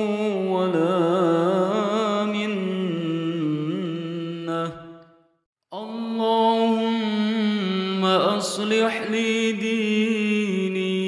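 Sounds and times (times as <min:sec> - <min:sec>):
person chanting melodically: 0:00.0 - 0:05.1, 0:05.7 - 0:11.0.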